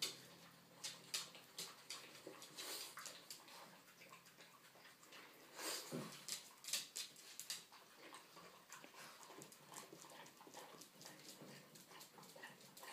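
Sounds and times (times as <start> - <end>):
dogs licking: 0.0 - 12.9.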